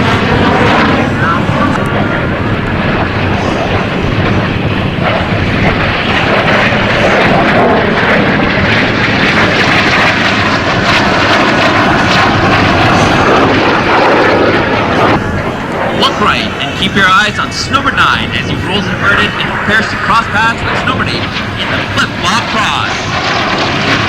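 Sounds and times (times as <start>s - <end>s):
jet roar: 0.0s - 24.0s.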